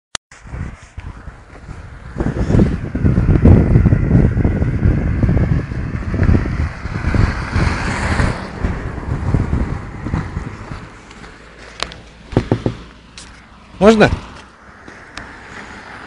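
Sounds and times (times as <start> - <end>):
wind buffeting a microphone: 0.3 - 13.2.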